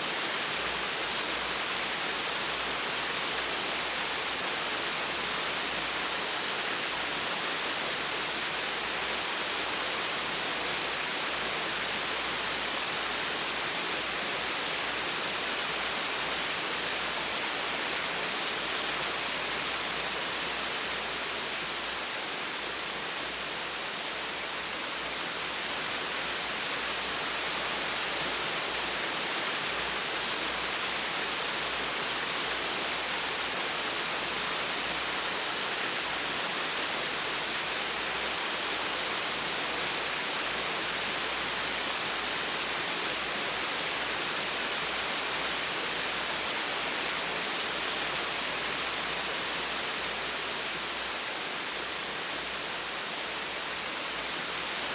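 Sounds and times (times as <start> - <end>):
small waterfall rushing: 0.0 - 54.9.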